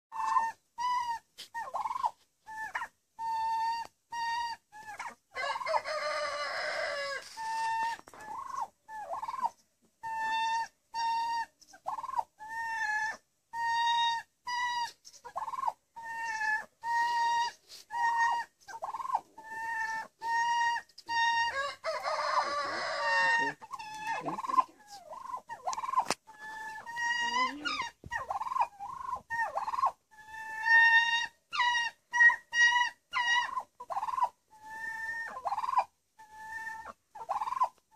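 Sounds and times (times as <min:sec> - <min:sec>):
turkey gobble: 0:00.1 - 0:37.9
turkeys calling: 0:00.1 - 0:37.9.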